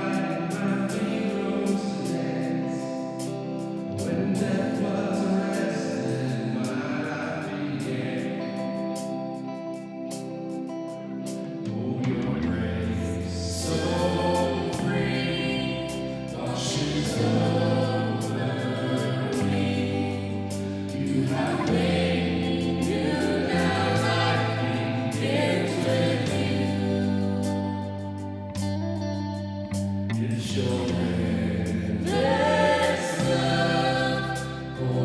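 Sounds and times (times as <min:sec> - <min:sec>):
voices singing: 0:00.0 - 0:29.1, 0:30.1 - 0:35.0
band playing sustained chords: 0:00.0 - 0:35.0.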